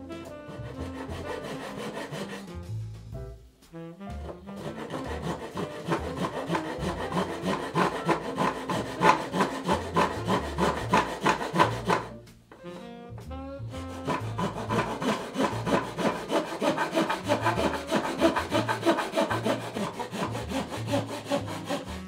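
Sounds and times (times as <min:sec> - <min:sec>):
background music with saxophone lead: 0:00.0 - 0:22.0
hand saw strokes on wood: 0:00.1 - 0:03.0, 0:04.1 - 0:13.2, 0:13.8 - 0:22.0.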